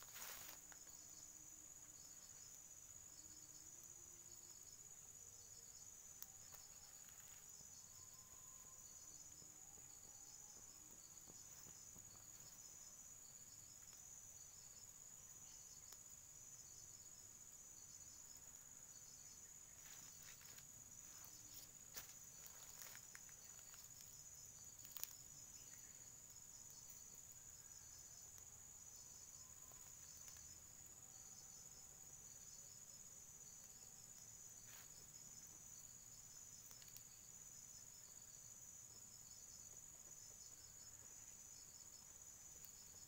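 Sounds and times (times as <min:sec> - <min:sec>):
insects chirping in pulses: 0:00.0 - 0:43.0.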